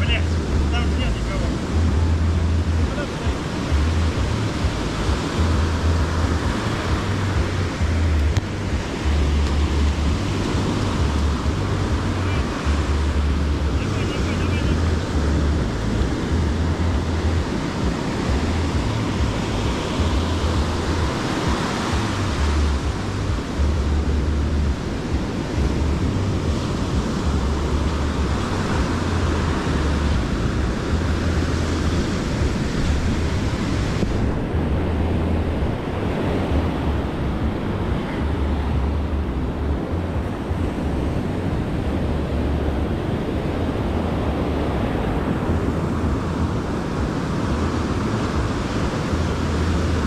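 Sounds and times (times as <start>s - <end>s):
surf breaking on a beach: 0.0s - 50.0s
wind buffeting microphone: 0.0s - 50.0s.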